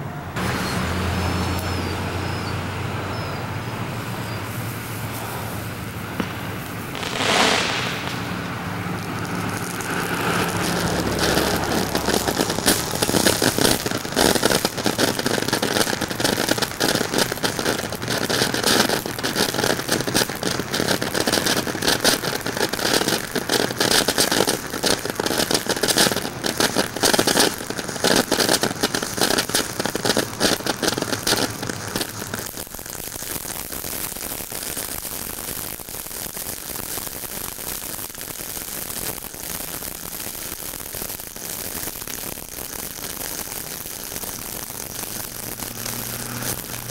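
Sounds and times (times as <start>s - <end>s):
firework fountain hissing and crackling: 0.0s - 46.9s.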